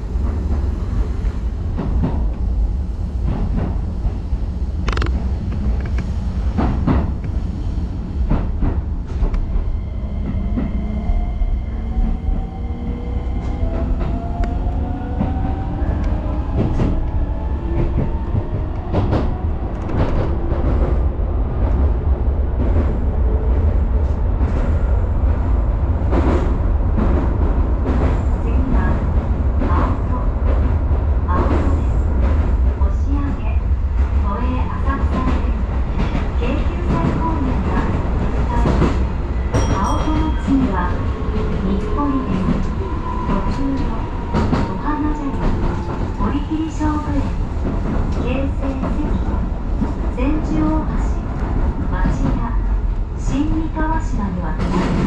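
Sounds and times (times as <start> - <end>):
electric train rumbling on track: 0.0 - 55.0.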